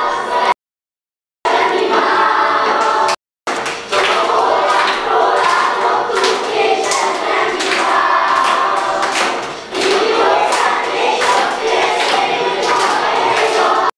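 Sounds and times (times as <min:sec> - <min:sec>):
children singing in chorus: 0:00.0 - 0:00.5, 0:01.5 - 0:03.2, 0:03.9 - 0:13.9.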